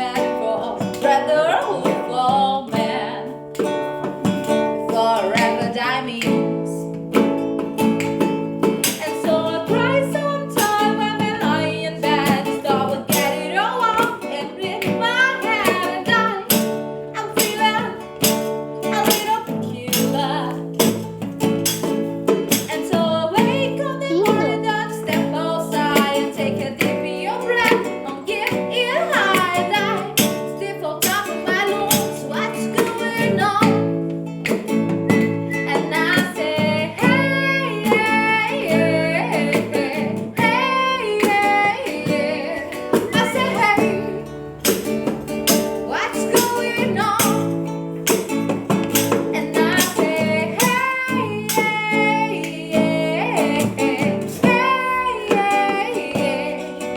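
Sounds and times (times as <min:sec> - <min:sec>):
acoustic guitar strumming: 0:00.0 - 0:56.9
woman singing: 0:00.0 - 0:56.9.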